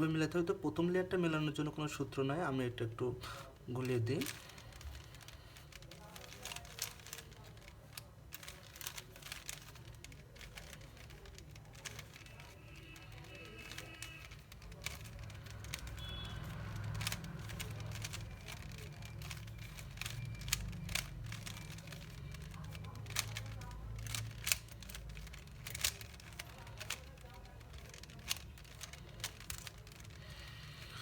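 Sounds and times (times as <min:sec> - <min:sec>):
faint music: 0:00.0 - 0:31.0
puzzle cube clicking: 0:03.4 - 0:31.0.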